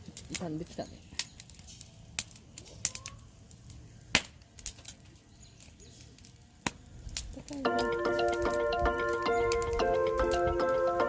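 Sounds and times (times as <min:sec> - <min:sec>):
campfire crackling and popping: 0:00.0 - 0:11.0
faint low hiss: 0:00.0 - 0:11.0.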